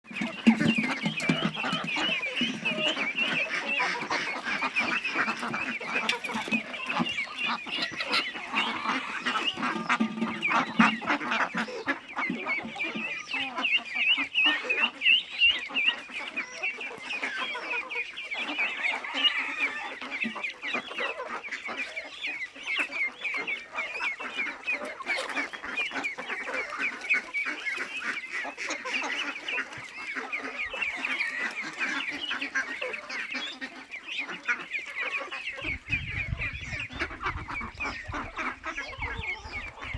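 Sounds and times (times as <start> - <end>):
flock of ducks calling: 0.0 - 39.9.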